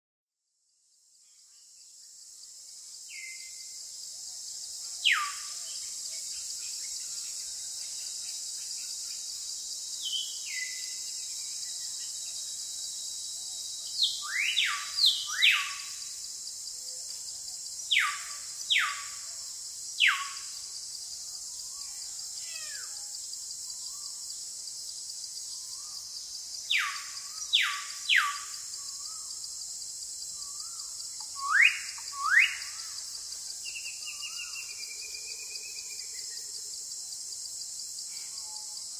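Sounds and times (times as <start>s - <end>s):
high-pitched insect chorus: 0.7s - 38.9s.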